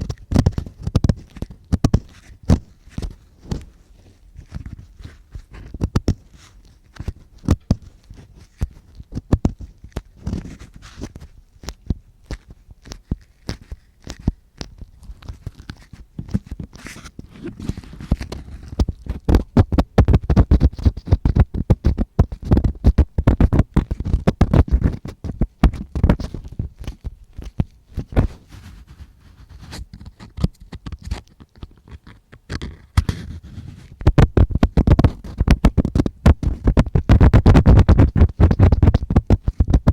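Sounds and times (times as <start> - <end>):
tool scratching against microphone: 0.0 - 39.9.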